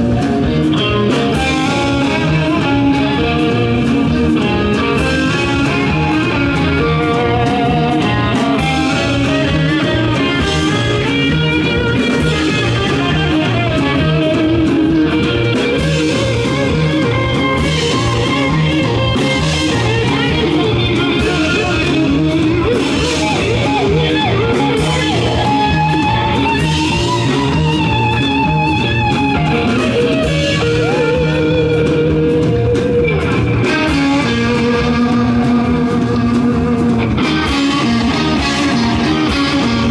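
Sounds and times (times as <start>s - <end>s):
bass guitar: 0.0s - 39.9s
drums: 0.0s - 39.9s
electric guitars: 0.0s - 39.9s.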